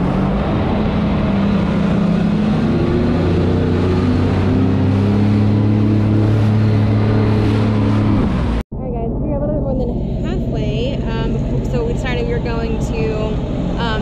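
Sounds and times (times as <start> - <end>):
jet ski engine running: 0.0 - 14.0.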